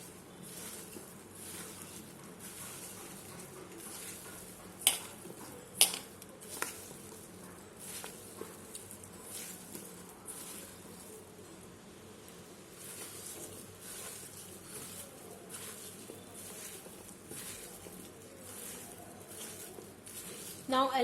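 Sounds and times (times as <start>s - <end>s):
food stirred in a bowl: 0.0s - 21.0s.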